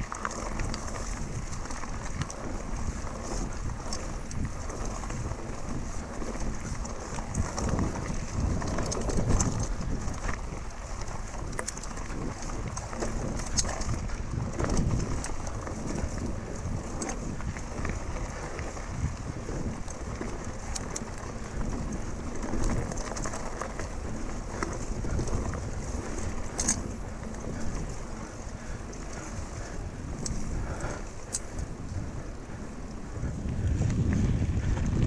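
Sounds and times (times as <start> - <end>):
bike clicks and rattles: 0.0 - 35.0
bike tyre noise on dirt trail: 0.0 - 35.0
wind buffeting microphone: 0.0 - 35.0.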